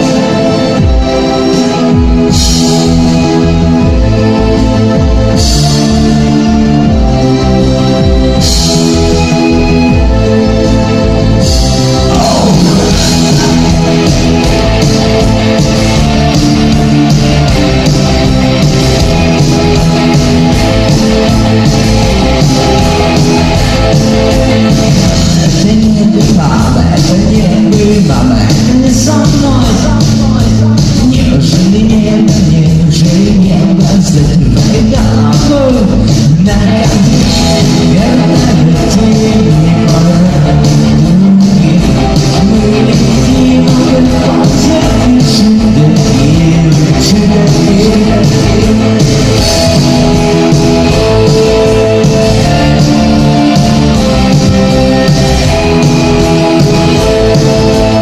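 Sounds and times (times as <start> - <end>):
rock band and orchestra playing: 0.0 - 58.0
person singing: 11.5 - 58.0.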